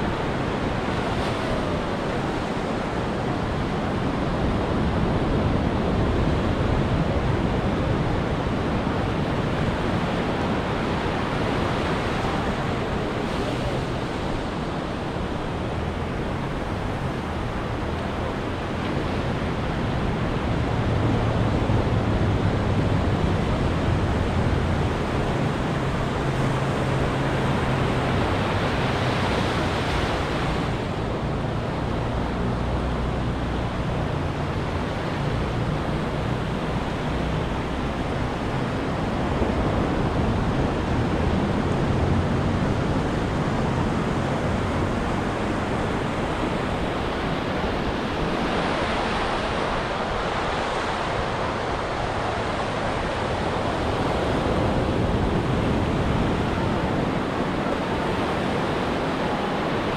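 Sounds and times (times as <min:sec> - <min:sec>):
ocean surf washing on beach: 0:00.0 - 0:59.9.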